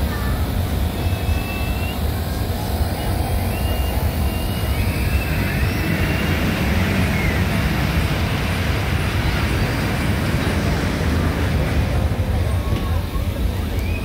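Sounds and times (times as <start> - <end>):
fairground machinery rumble: 0.0 - 14.0.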